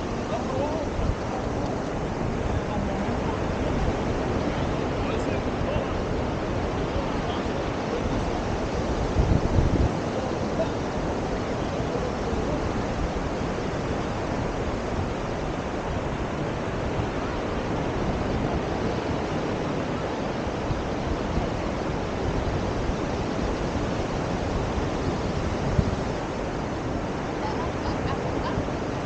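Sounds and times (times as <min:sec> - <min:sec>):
sea surf on a beach: 0:00.0 - 0:29.0
wind noise on microphone: 0:00.0 - 0:29.0.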